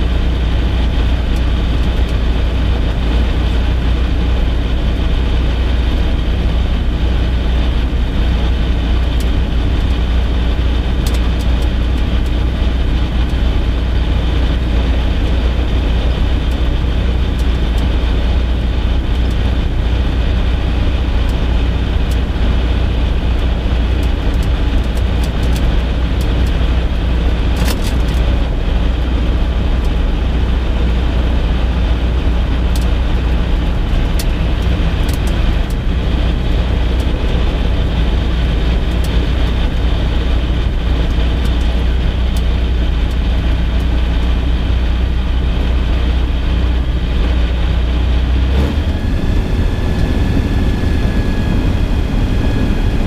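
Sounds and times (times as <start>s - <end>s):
propeller aircraft engine rumble: 0.0s - 53.0s.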